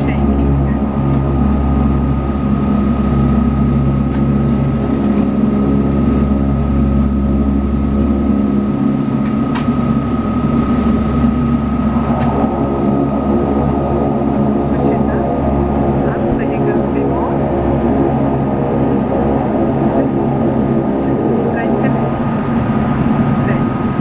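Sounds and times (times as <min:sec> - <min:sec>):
turboprop cabin drone: 0:00.0 - 0:24.0.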